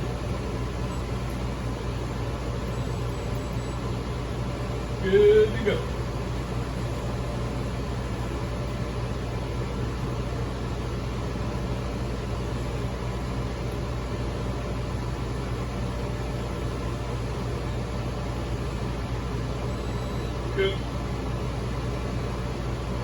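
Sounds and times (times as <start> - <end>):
hvac equipment humming: 0.0 - 23.0.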